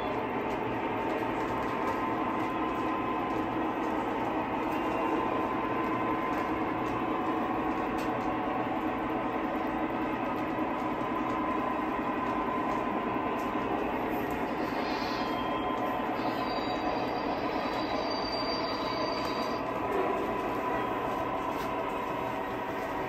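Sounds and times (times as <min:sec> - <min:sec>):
model train wheels and motors whirring: 0:00.0 - 0:23.0.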